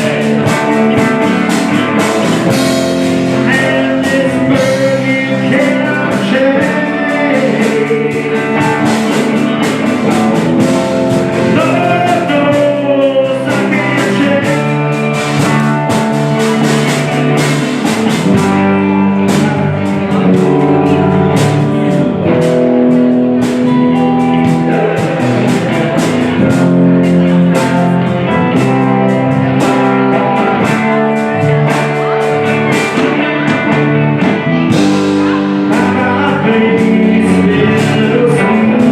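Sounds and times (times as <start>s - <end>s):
rock music with guitars and drums: 0.0s - 38.9s.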